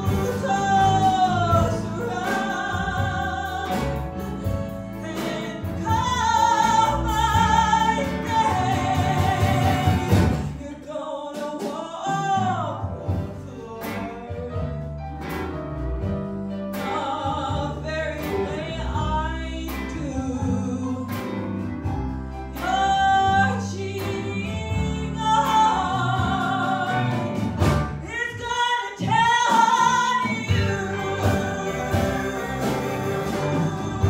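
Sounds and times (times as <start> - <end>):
woman singing country song: 0.0 - 15.0, 16.7 - 34.0
band playing: 0.0 - 34.0.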